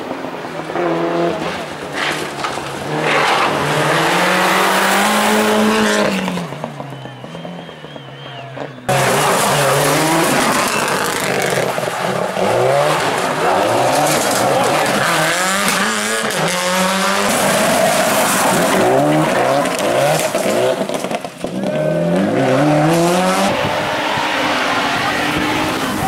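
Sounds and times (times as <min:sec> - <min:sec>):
rally car engine revving: 0:00.0 - 0:26.0
rally car shifting through gears: 0:00.0 - 0:26.0.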